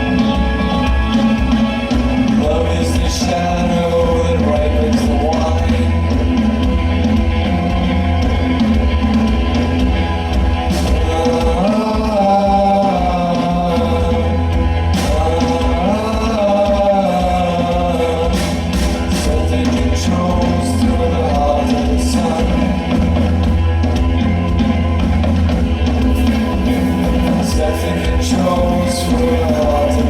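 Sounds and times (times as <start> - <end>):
person singing: 0.0 - 6.8, 9.8 - 23.4, 26.1 - 30.0
bass: 0.0 - 30.0
drums: 0.0 - 30.0
electric guitar: 0.0 - 30.0.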